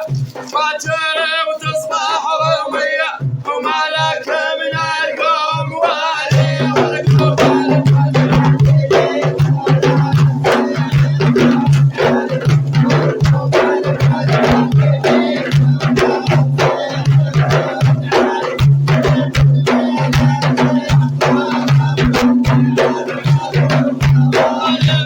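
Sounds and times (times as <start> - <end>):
hand drum rhythm: 0.0 - 25.0
man singing with heavy vibrato: 0.0 - 25.0.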